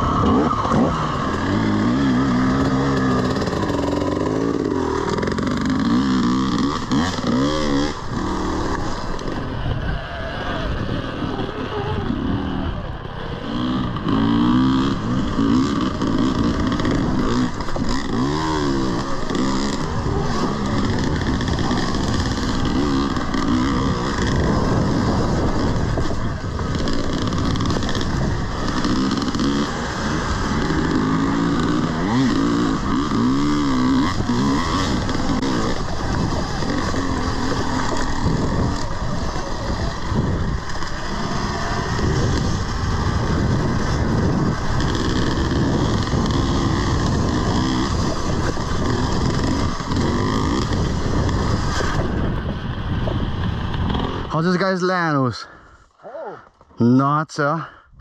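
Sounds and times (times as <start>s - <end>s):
dirt bike engine revving: 0.0s - 55.6s.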